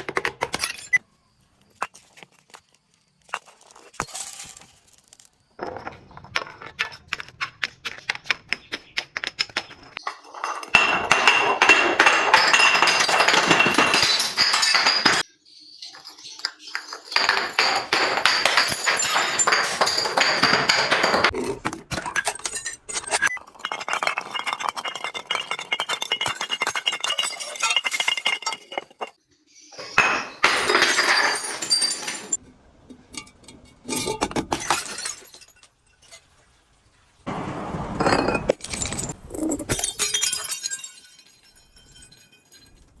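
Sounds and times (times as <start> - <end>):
glass crushing and shattering: 0.3 - 1.0, 1.8 - 7.2, 9.9 - 29.2, 29.8 - 37.2, 37.8 - 43.0.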